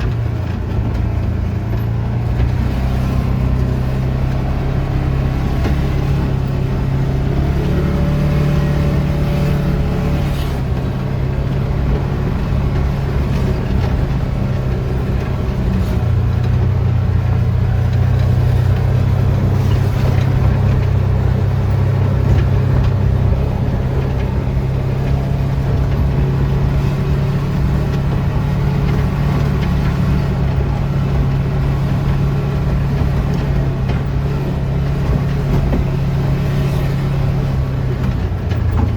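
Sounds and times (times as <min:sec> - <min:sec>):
vehicle engine droning while driving: 0:00.0 - 0:38.9.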